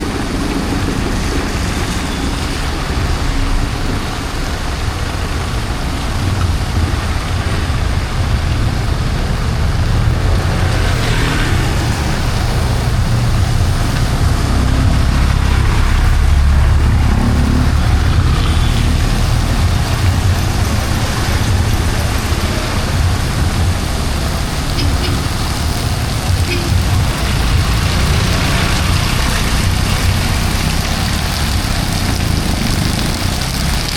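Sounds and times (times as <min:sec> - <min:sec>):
heavy rain on street: 0:00.0 - 0:33.9
road traffic passing: 0:00.0 - 0:33.9.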